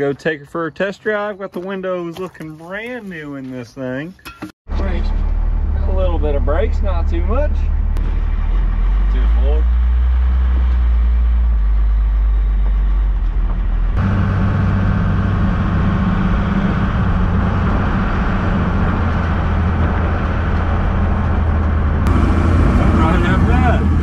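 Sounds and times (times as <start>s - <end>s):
diesel truck engine running: 4.7s - 24.0s.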